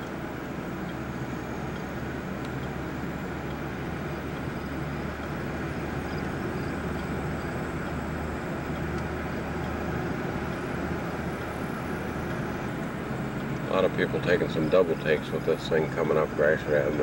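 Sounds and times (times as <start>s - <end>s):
car interior road noise: 0.0s - 17.0s.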